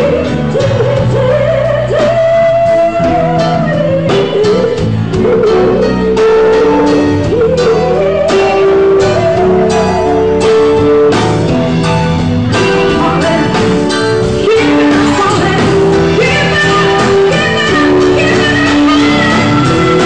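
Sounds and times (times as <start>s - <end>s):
woman singing into microphone: 0.0s - 10.8s, 12.5s - 20.0s
drum kit steady beat: 0.0s - 20.0s
electric guitar: 0.0s - 20.0s.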